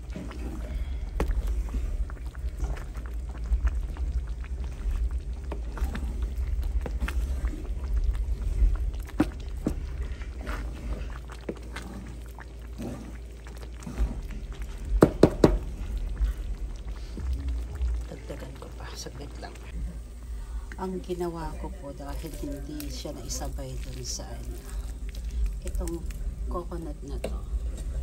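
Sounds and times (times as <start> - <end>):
low rumble: 0.0 - 28.0
rice bubbling: 0.0 - 28.0.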